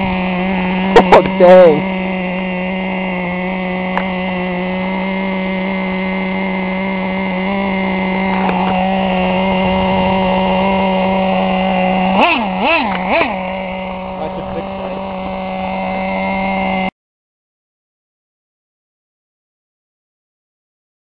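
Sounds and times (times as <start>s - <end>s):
rc truck engine running: 0.0s - 16.9s.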